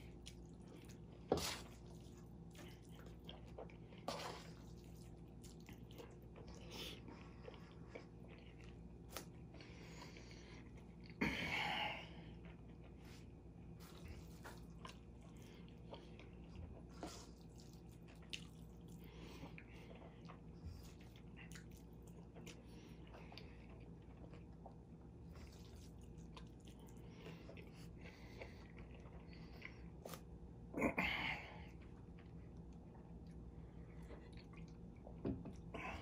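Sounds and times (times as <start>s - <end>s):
quiet chewing: 0.0s - 11.2s, 12.1s - 30.6s, 31.6s - 36.0s
faint low hum: 0.0s - 36.0s.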